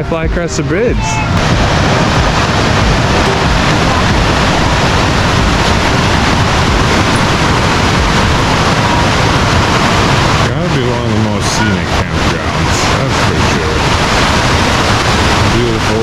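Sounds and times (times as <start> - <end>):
waterfall rushing: 1.3 - 16.0.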